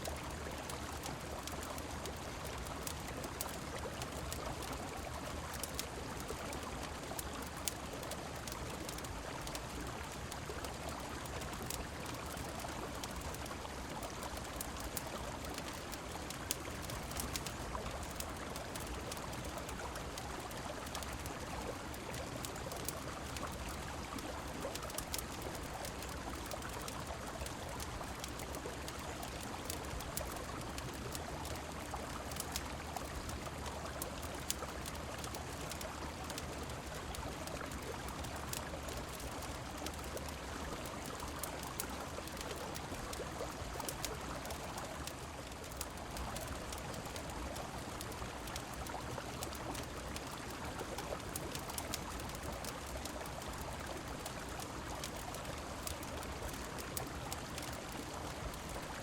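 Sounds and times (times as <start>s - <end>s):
wood fire crackling: 0.0s - 58.9s
rain: 0.0s - 59.0s.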